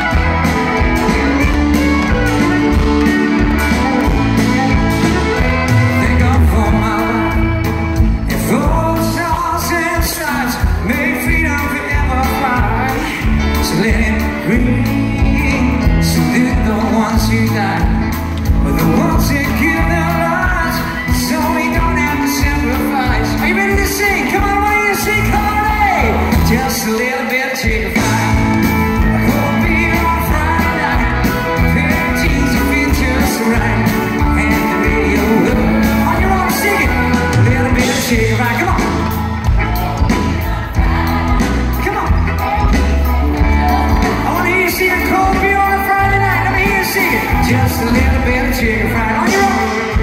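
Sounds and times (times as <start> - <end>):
backing singers: 0.0 - 50.0
live country band: 0.0 - 50.0
man singing lead vocal: 0.0 - 50.0.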